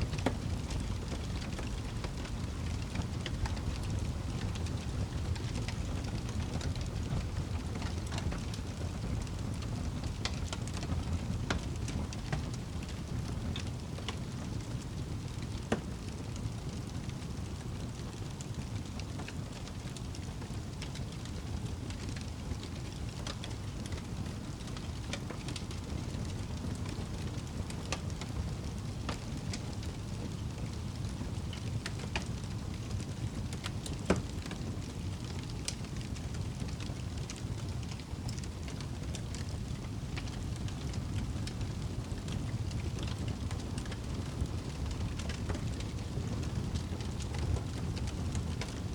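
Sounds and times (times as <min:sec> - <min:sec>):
logs crackling and popping: 0:00.0 - 0:48.9
low rumble of flames: 0:00.0 - 0:48.9.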